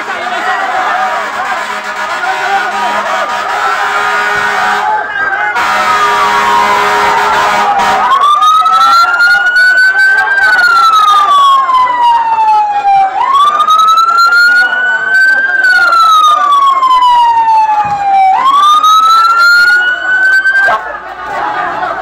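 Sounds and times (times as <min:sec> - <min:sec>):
fire truck siren wailing: 0:00.0 - 0:22.0.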